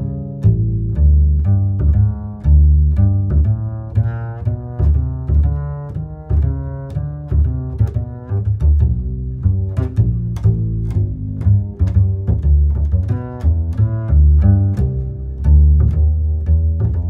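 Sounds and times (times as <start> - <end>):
plucked and bowed string notes: 0.0 - 17.0.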